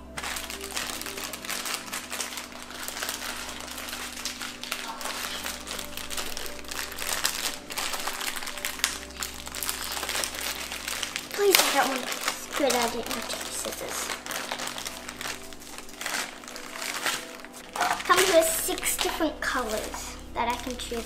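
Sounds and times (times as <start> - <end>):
background music: 0.0 - 21.0
plastic packaging crinkling: 0.0 - 21.0.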